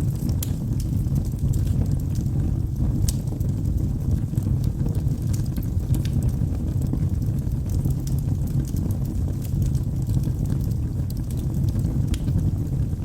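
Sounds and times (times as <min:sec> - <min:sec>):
log fire burning: 0:00.0 - 0:13.0.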